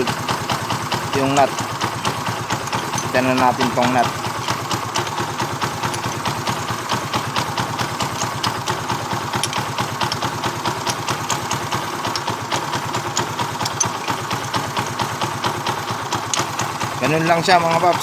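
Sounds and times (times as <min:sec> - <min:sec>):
small motorcycle engine idling: 0:00.0 - 0:18.0.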